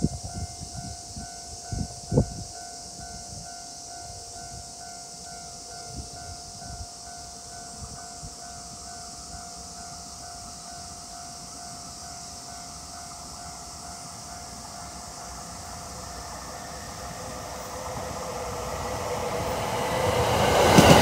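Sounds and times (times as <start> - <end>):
high hiss: 0.0 - 21.0.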